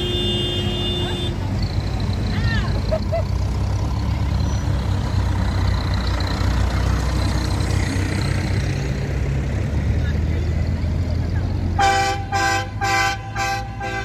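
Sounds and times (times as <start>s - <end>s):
car traffic passing: 0.0s - 14.0s.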